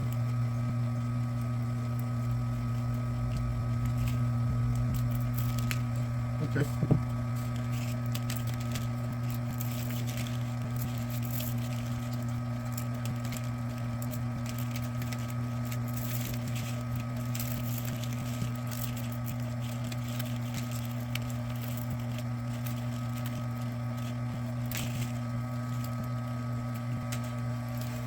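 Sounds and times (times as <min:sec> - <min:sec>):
machine motor humming: 0:00.0 - 0:28.0
wire crackling through blades: 0:01.3 - 0:28.0.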